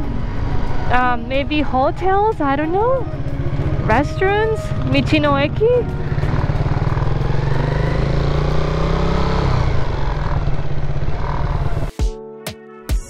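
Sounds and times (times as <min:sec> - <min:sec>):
motorcycle engine running: 0:00.0 - 0:11.9
road and rushing-air noise: 0:00.0 - 0:11.9.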